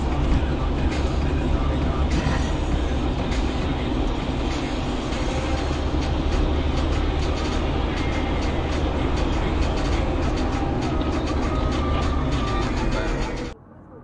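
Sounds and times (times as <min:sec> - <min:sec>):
moving vehicle rumble: 0:00.0 - 0:14.0.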